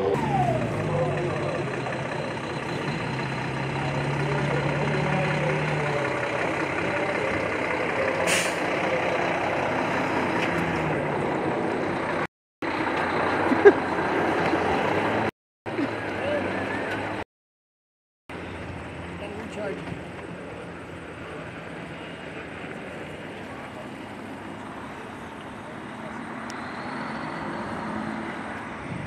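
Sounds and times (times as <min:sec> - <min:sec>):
outdoor background noise: 0:00.0 - 0:17.2, 0:18.3 - 0:29.0.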